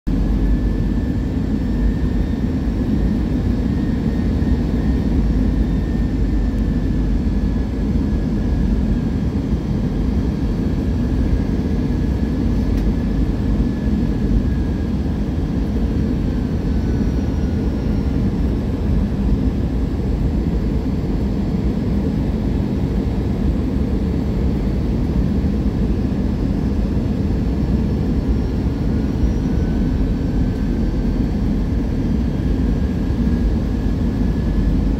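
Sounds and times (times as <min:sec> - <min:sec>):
airplane engines rumbling: 0:00.1 - 0:34.9
faint engine whine: 0:00.1 - 0:34.9.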